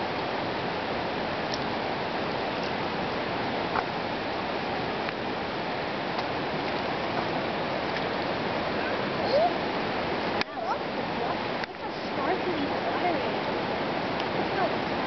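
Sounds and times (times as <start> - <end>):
river water rushing over rocks: 0.0 - 15.0.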